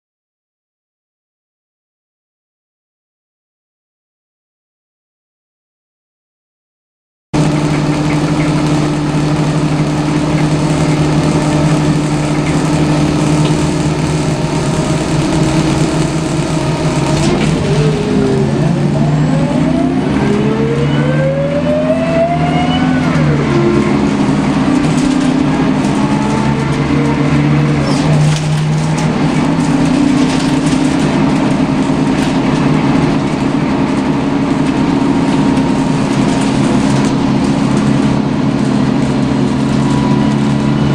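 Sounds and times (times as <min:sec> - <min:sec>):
bus engine drone: 0:07.4 - 0:40.9
bus engine whine rising in pitch: 0:07.4 - 0:40.9.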